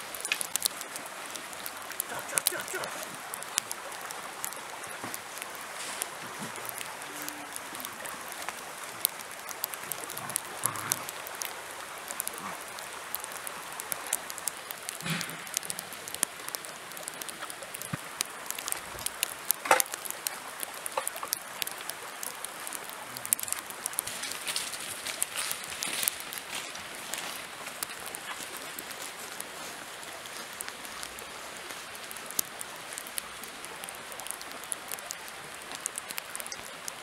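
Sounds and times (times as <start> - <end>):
rain pattering on leaves: 0.0 - 37.0.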